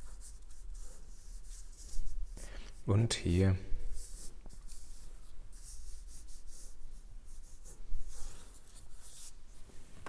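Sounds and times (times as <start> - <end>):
marker scratching on paper: 0.0 - 2.5, 3.9 - 9.5.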